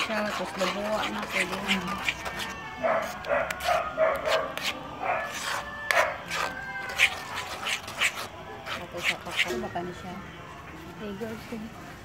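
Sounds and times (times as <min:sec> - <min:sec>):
metal ladle scraping a wok: 0:00.0 - 0:09.7.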